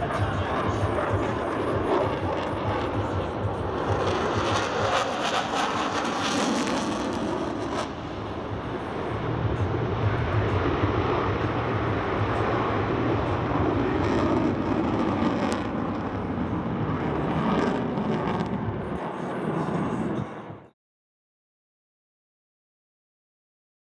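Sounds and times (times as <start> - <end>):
jet engine rushing noise: 0.0 - 20.6.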